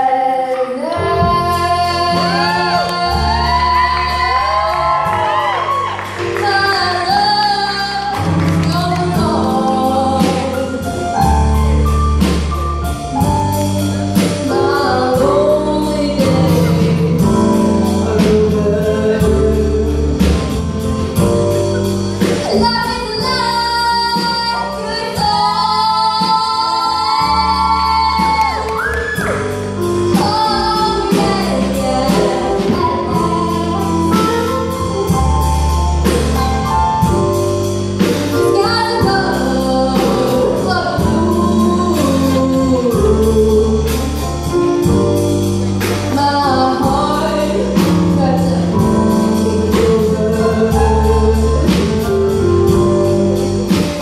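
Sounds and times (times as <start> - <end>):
woman singing: 0.0 - 11.6, 14.1 - 20.6, 22.2 - 35.4, 38.0 - 45.0, 45.8 - 54.0
live band playing: 0.0 - 54.0.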